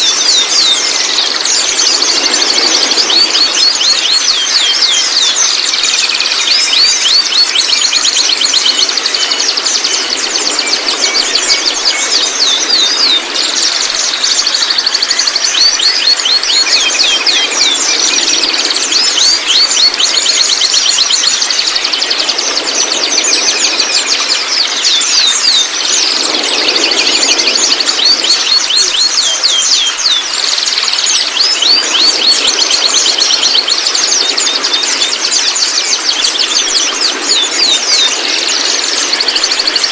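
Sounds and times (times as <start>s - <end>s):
young bird twittering: 0.0s - 39.9s.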